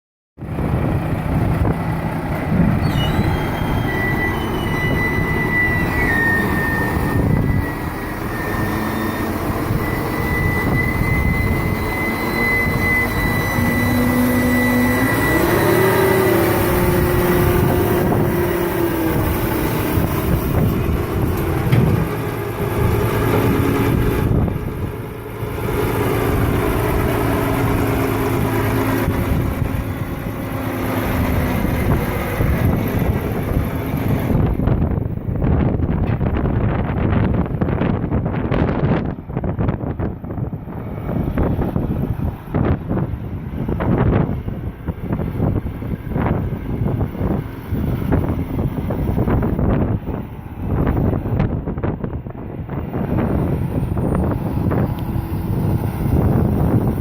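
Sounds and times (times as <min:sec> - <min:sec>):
heavy diesel machinery running: 0:00.4 - 0:57.0.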